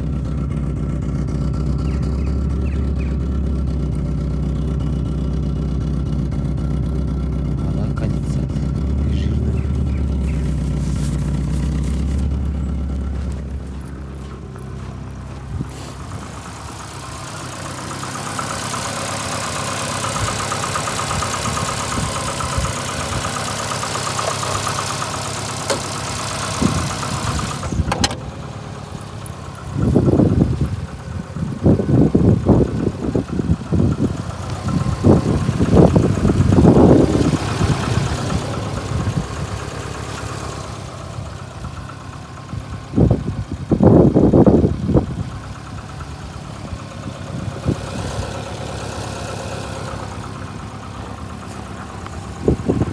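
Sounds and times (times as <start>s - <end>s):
engine running unevenly: 0.0s - 52.9s.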